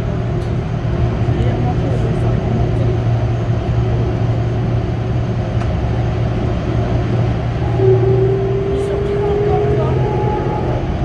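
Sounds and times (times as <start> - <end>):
metro train running in tunnel: 0.0 - 11.0.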